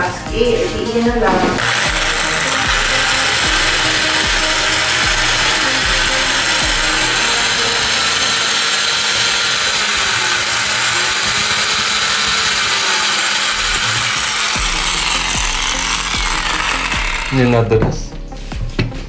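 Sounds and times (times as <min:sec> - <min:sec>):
electric drill cutting plastic: 0:01.4 - 0:18.1.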